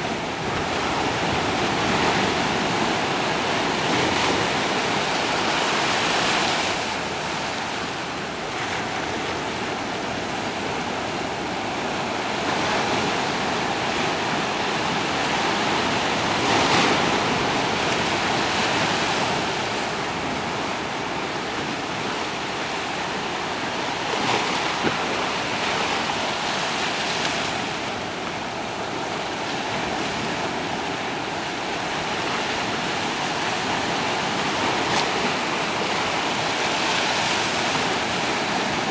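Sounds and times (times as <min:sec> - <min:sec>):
surf washing over sandy shore: 0:00.0 - 0:38.9.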